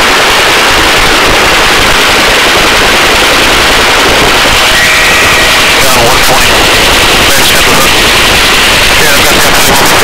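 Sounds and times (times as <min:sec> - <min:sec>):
helicopter rotor chopping: 0:00.0 - 0:10.0.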